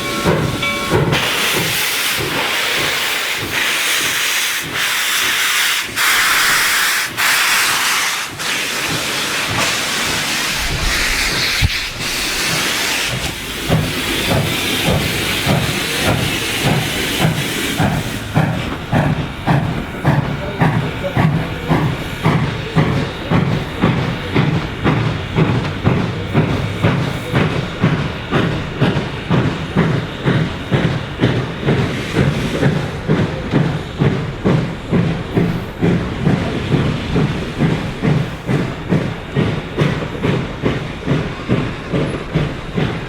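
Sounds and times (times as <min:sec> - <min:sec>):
steam hissing: 0:00.0 - 0:43.0.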